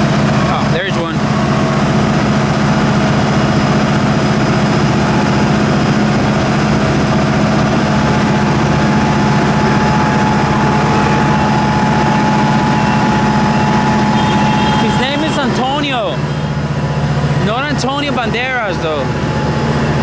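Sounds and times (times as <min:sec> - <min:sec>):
machinery drone: 0:00.0 - 0:20.0.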